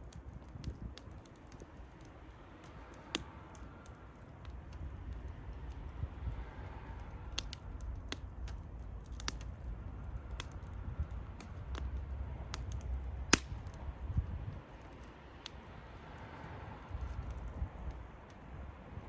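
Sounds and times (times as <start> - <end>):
steady low rumble: 0.0 - 19.0
wood fire crackling: 0.0 - 19.0.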